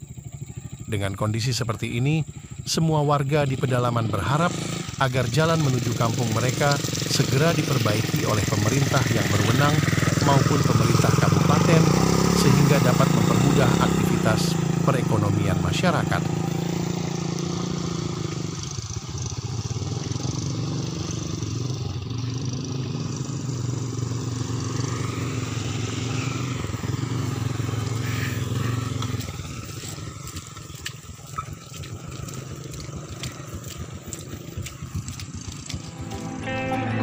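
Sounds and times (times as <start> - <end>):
motorcycle engines running: 0.0 - 37.0.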